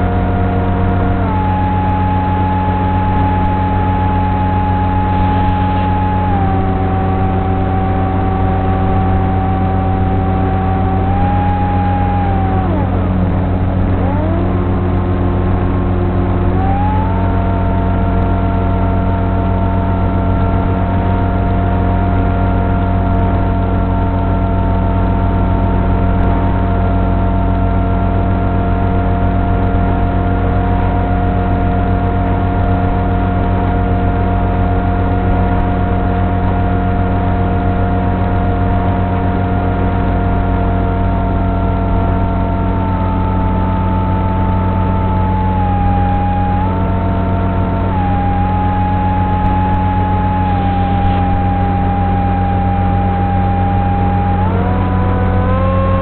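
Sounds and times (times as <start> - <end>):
constant low hum: 0.0 - 56.0
electric propeller motor whine: 0.0 - 56.0.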